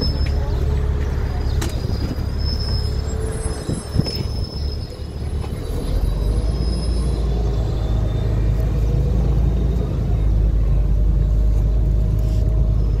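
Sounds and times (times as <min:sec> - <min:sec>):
bus engine road and wind rumble: 0:00.0 - 0:13.0.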